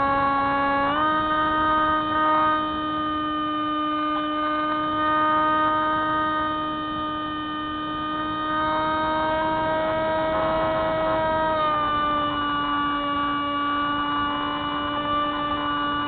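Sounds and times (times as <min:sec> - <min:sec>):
model plane motor whining: 0:00.0 - 0:16.0.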